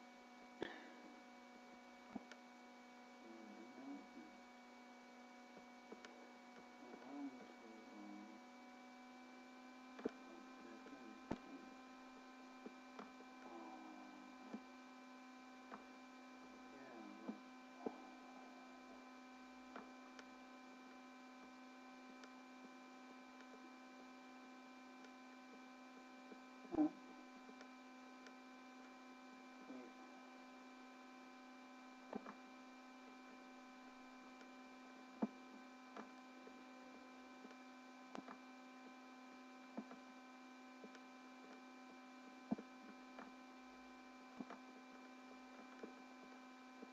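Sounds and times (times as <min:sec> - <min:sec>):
faint electrical hum: 0:00.0 - 0:46.9.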